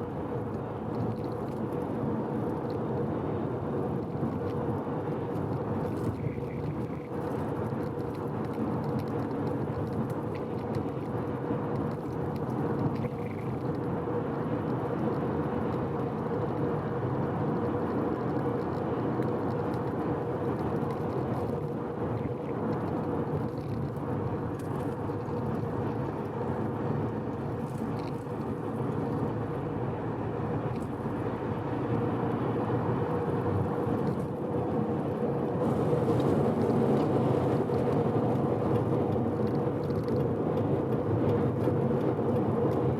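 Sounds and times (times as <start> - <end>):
constant hum: 0.0 - 42.9
rotary car engine cruising: 0.0 - 42.9.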